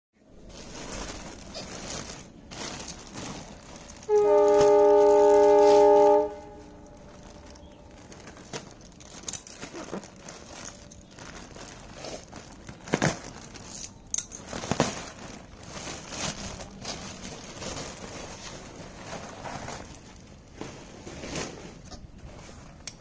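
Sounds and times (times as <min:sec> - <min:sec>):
plastic bag crinkling: 0:00.2 - 0:23.0.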